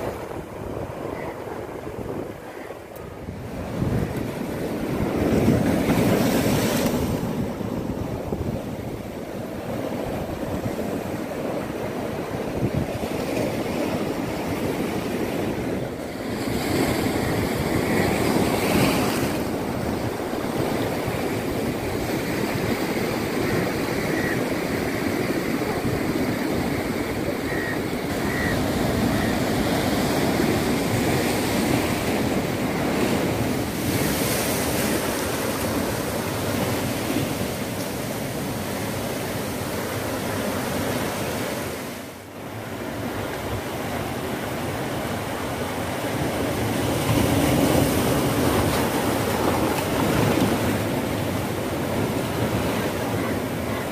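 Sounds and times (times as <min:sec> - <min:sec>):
sea surf breaking over rocks: 0:00.0 - 0:53.9.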